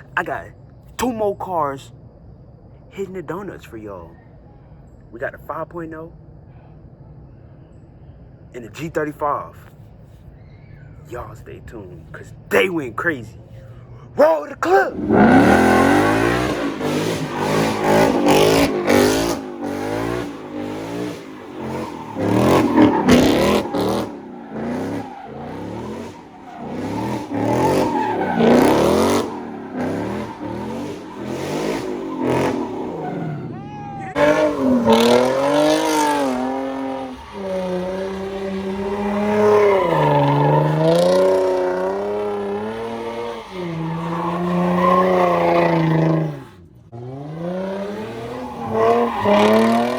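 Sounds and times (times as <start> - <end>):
car engine revving: 8.0 - 49.9
tyres squealing: 8.5 - 49.9.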